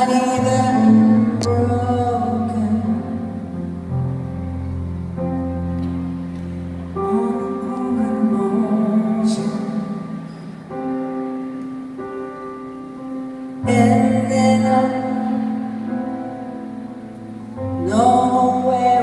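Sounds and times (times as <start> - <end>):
live band playing slow ballad: 0.0 - 19.0.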